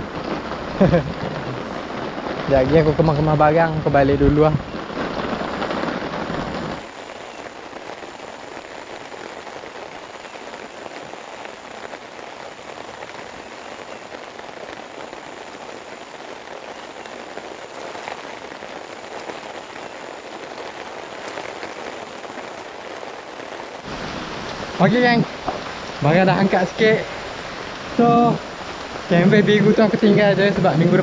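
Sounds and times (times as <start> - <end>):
heavy rain on a tarp: 0.0 - 31.0.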